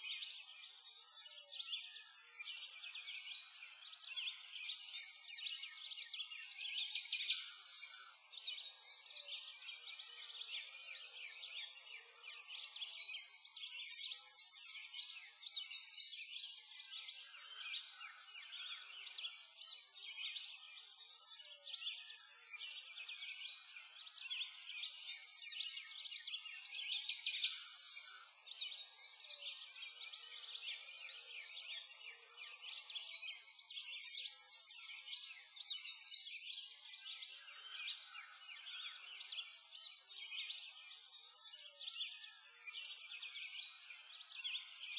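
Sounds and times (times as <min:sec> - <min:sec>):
small birds chirping and singing: 0:00.0 - 0:44.9.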